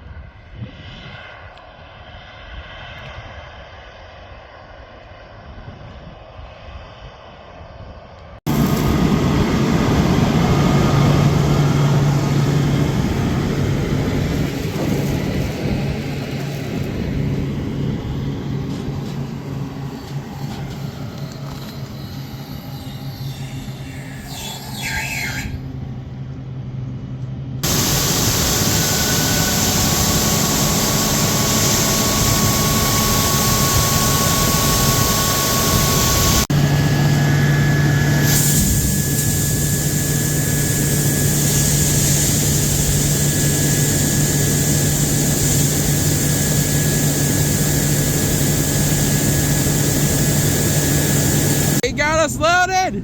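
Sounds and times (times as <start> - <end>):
heavy machinery running: 8.5 - 24.9, 25.6 - 51.9
high steady whine: 8.5 - 52.4.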